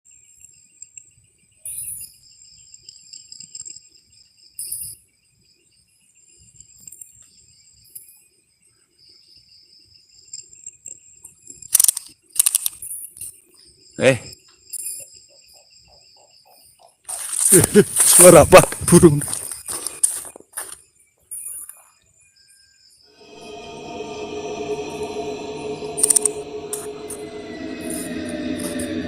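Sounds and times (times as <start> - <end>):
insects chirring: 0.1 - 29.0.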